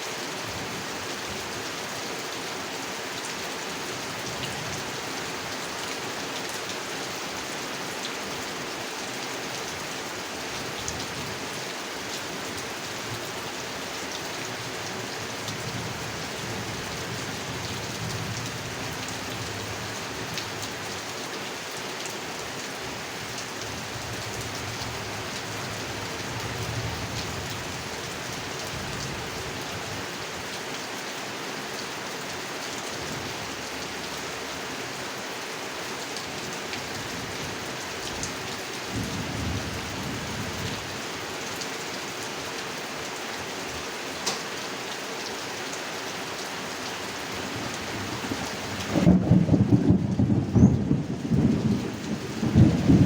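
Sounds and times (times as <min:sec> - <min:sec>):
rain falling on a pond: 0:00.0 - 0:53.0.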